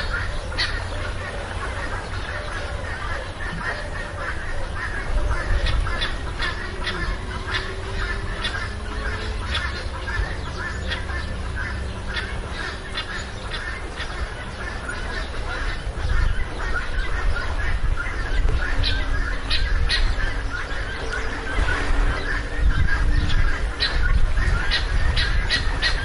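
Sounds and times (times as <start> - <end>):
animal squawks and honks: 0.0 - 26.0
steady low rumble: 0.0 - 26.0.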